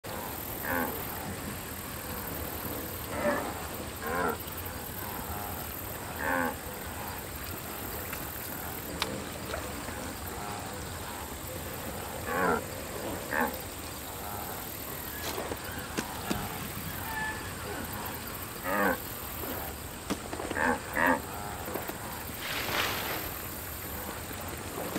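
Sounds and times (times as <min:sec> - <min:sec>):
steady background hiss: 0:00.1 - 0:24.9.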